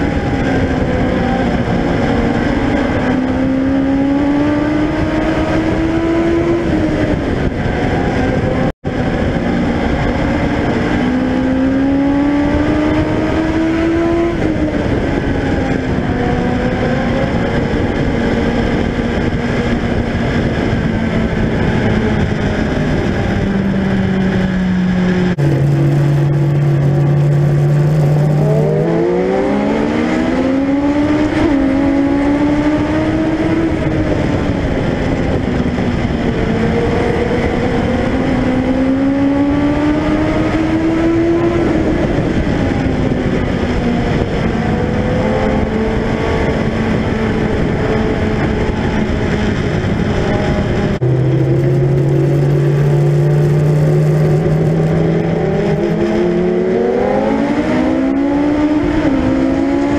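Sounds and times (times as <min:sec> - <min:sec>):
race car engine: 0:00.0 - 0:59.9
wind and road noise: 0:00.0 - 0:59.9.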